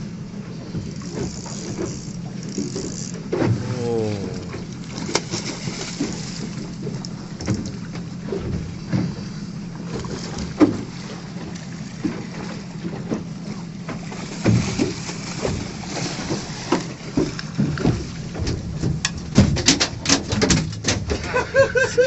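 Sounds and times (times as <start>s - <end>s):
boat engine hum: 0.0s - 22.0s.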